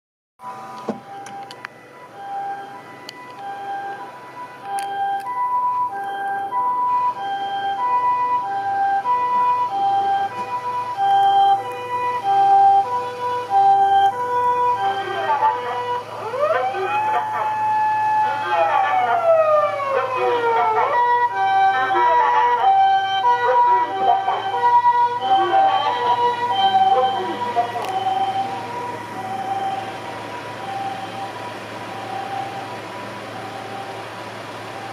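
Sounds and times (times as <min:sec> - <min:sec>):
ambulance two-tone siren: 0:00.4 - 0:34.9
street traffic: 0:00.4 - 0:34.9.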